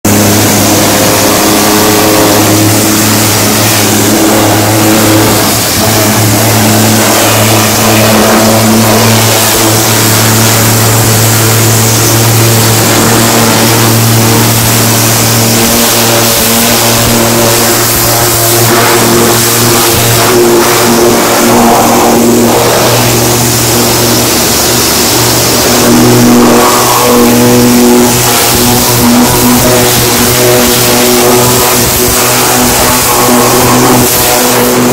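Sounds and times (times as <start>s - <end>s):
pressure washer humming: 0.0s - 34.9s
water jet hissing and spattering: 0.0s - 34.9s.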